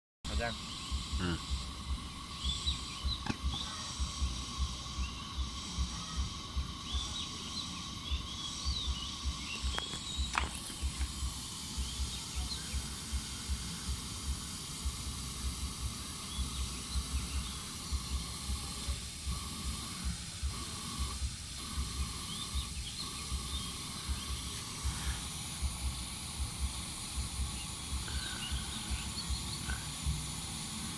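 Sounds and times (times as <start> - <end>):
pressure lantern hissing: 0.3 - 30.9.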